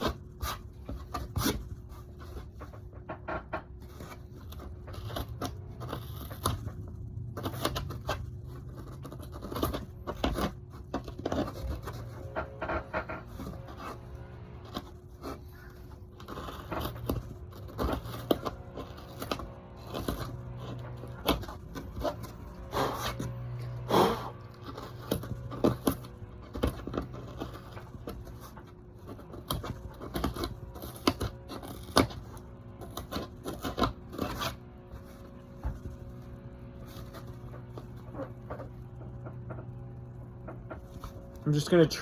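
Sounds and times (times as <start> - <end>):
tool scraping foam and wood: 0.0 - 42.0.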